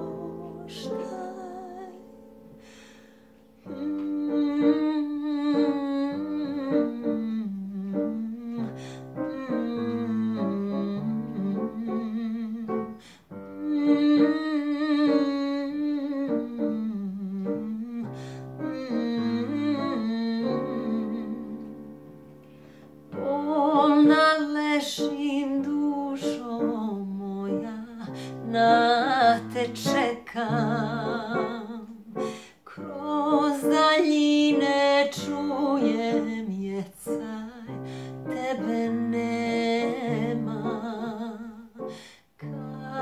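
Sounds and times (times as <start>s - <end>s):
piano accompaniment: 0.0s - 43.0s.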